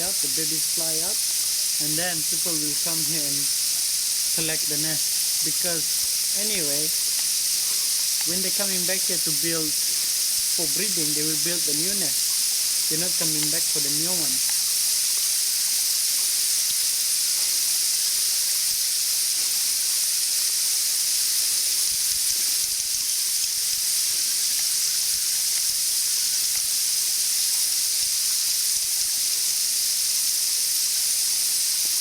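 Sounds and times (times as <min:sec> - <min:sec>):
steady high-pitched hiss: 0:00.0 - 0:32.0.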